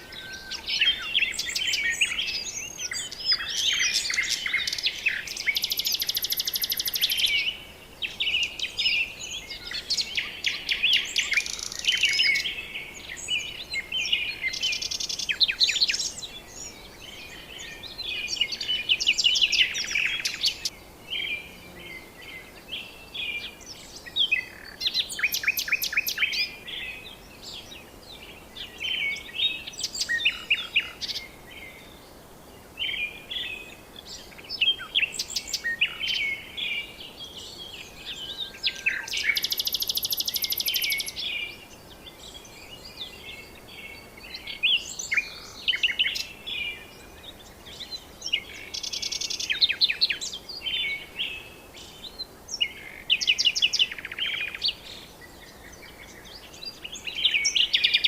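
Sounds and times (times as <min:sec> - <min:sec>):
wild birds chirping and whistling: 0:00.0 - 0:58.0.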